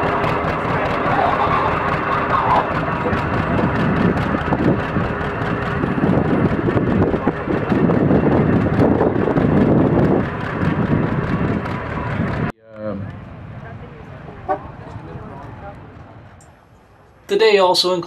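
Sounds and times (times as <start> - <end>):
tractor engine labouring: 0.0 - 17.4.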